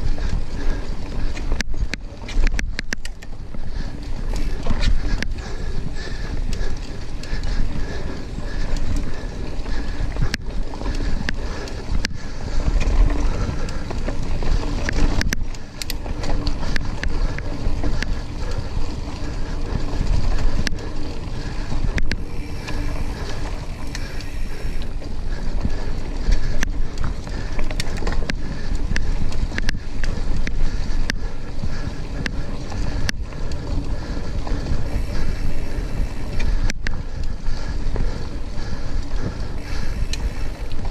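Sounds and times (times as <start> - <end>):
bike rattling over bumps: 0.0 - 40.9
tyres rumbling on dirt trail: 0.0 - 40.9
wind buffeting microphone: 0.0 - 40.9.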